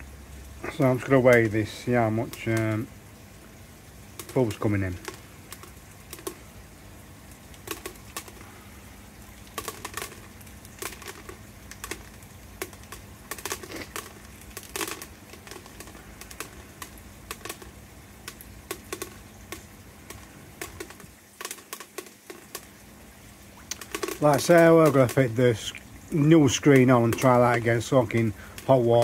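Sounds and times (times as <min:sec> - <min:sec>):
faint steady hum: 0:00.0 - 0:29.0
food pellets ticking into container: 0:00.7 - 0:02.9, 0:04.0 - 0:29.0.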